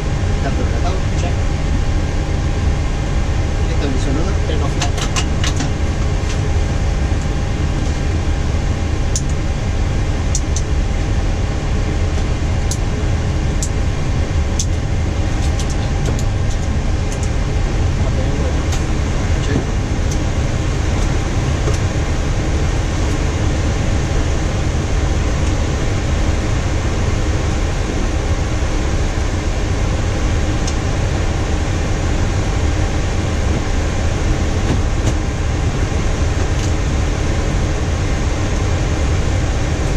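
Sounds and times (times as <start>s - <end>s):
air-conditioning hiss: 0.0s - 39.9s
jet engine low rumble: 0.0s - 39.9s.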